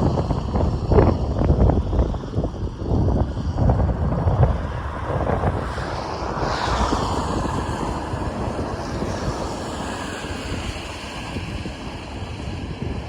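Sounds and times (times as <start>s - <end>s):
bicycle road rumble: 0.0s - 13.0s
wind on microphone: 0.0s - 13.0s.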